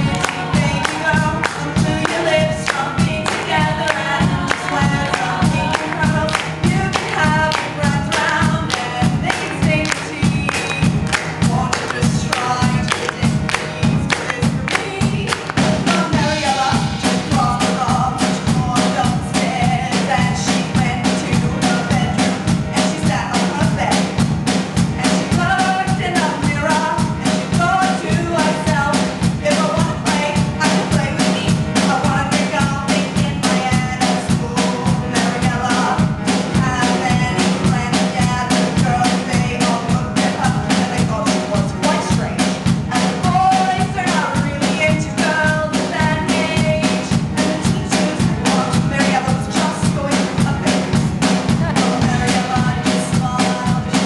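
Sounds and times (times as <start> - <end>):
drum kit beat: 0.0 - 54.0
grand piano: 0.0 - 54.0
woman singing: 0.0 - 54.0.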